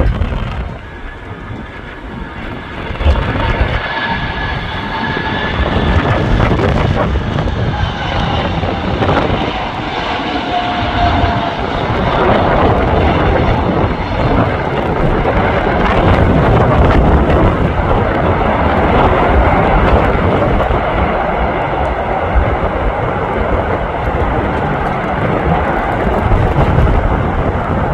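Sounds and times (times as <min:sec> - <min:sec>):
jet engine rumble: 0:00.0 - 0:27.9
wind buffeting microphone: 0:00.0 - 0:27.9.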